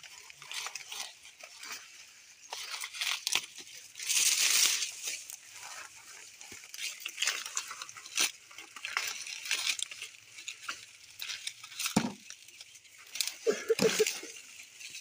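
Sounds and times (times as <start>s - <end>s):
corn husks crackling and tearing: 0.0s - 15.0s
dry stalks and leaves rustling: 0.0s - 15.0s.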